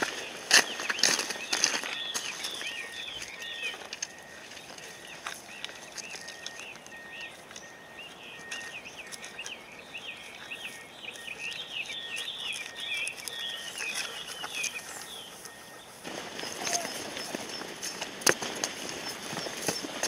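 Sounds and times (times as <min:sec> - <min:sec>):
dogs crackling through reeds: 0:00.0 - 0:09.6, 0:10.2 - 0:20.0.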